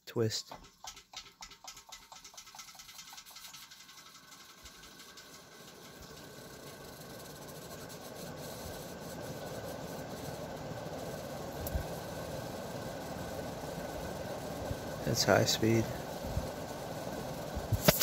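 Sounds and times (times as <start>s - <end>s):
ceiling fan motor hum: 0.1s - 18.0s.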